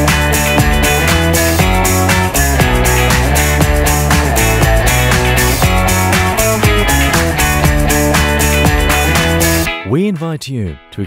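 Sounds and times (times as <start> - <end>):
rock music with guitar: 0.0 - 9.9.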